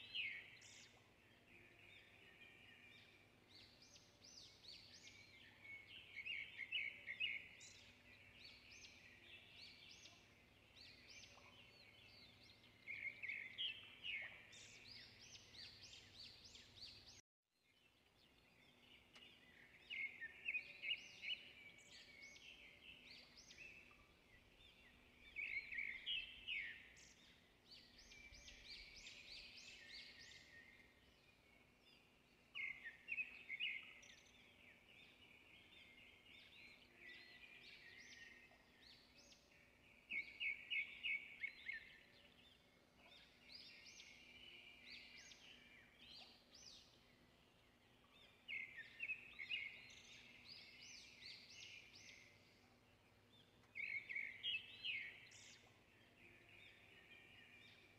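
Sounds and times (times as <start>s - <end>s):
birds twittering: 0.0s - 17.2s, 18.3s - 57.9s.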